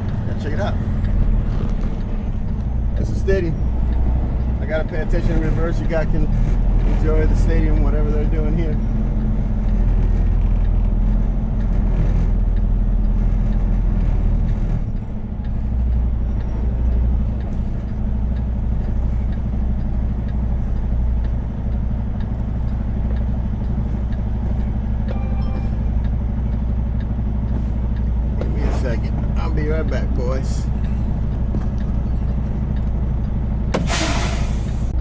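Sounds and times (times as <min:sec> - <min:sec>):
diesel truck engine reversing: 0:00.0 - 0:35.0.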